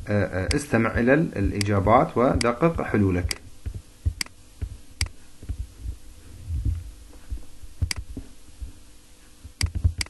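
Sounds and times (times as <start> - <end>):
faint electrical hum: 0.0 - 10.0
soft low thumps: 1.4 - 10.0.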